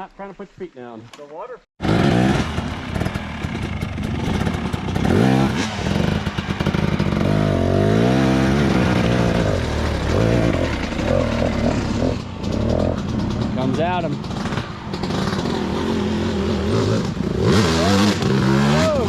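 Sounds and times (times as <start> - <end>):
dirt bike engine revving: 1.8 - 19.0.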